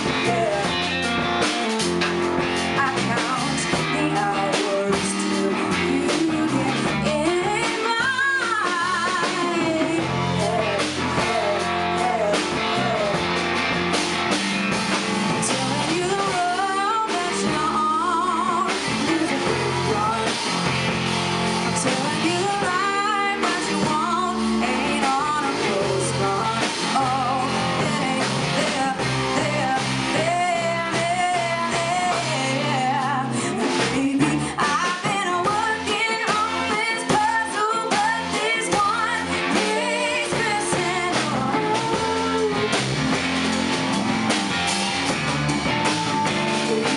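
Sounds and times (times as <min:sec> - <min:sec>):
lead vocal singing: 0:00.0 - 0:02.0, 0:02.6 - 0:13.7, 0:15.2 - 0:21.0, 0:21.6 - 0:43.2
rock band playing: 0:00.0 - 0:46.9.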